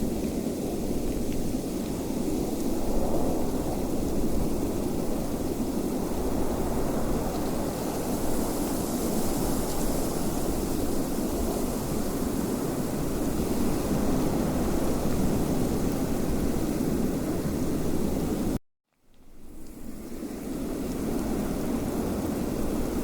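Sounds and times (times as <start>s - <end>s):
steady wind: 0.0s - 18.6s, 19.3s - 23.0s.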